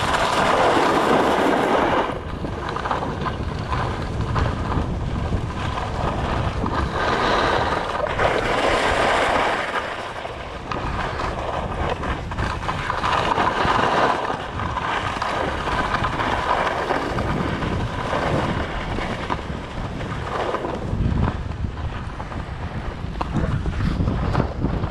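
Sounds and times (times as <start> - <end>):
skis scraping on snow: 0.0 - 24.9
wind buffeting microphone: 0.0 - 24.9.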